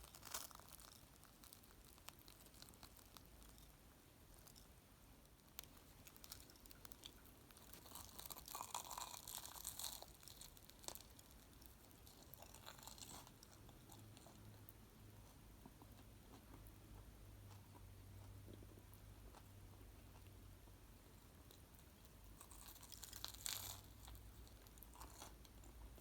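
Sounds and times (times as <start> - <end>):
crackles: 0.0 - 26.0
crunching and chewing: 0.0 - 26.0.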